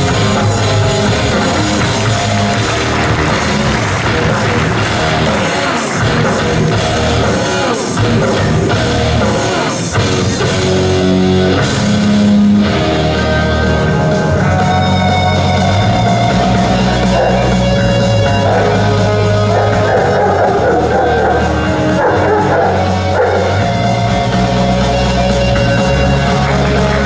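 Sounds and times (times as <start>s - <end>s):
drums: 0.0s - 27.0s
electric guitar: 0.0s - 27.0s
held bass notes: 0.0s - 27.0s
rock music: 0.0s - 27.0s.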